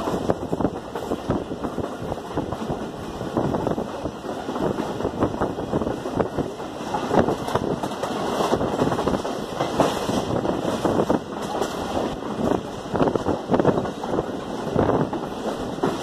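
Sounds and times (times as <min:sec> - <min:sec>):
clatter of train wheels: 0:00.0 - 0:16.0
wind rushing over microphone: 0:00.0 - 0:16.0.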